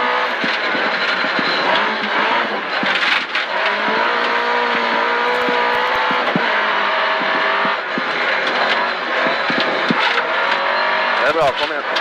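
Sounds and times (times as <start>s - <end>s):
gravel road noise: 0.0s - 12.0s
rally car engine running hard: 0.0s - 12.0s.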